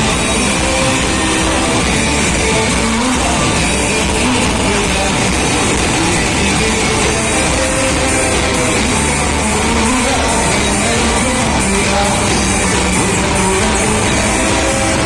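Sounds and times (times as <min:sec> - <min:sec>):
rock band playing loudly: 0:00.0 - 0:15.0.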